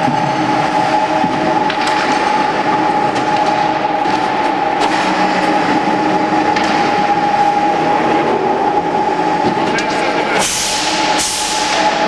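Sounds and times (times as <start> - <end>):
machine running with high hum: 0.0 - 12.0.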